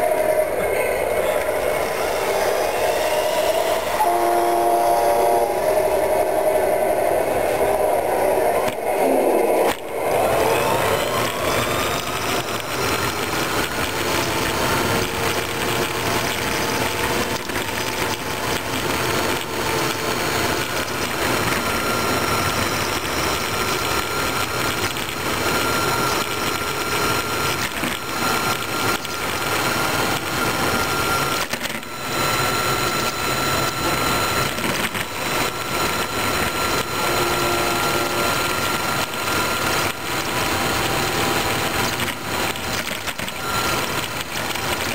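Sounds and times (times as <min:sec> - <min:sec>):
toy truck motor whine: 0:00.0 - 0:44.9
drivetrain and tyre noise: 0:05.1 - 0:44.9.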